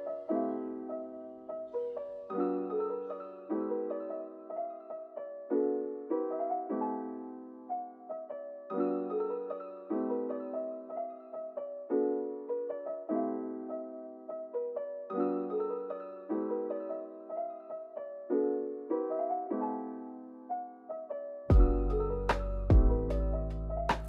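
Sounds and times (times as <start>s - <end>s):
gentle solo piano: 0.0s - 24.0s.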